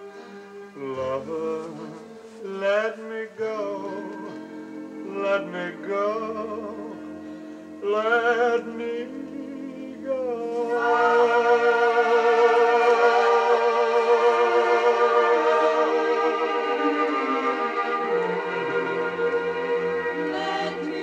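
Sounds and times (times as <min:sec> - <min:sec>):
instrumental accompaniment: 0:00.0 - 0:21.0
person singing with vibrato: 0:00.0 - 0:21.0.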